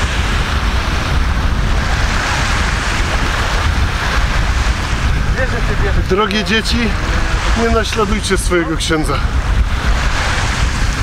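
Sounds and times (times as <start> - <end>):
small waves breaking on shore: 0.0 - 11.0
wind buffeting microphone: 0.0 - 11.0.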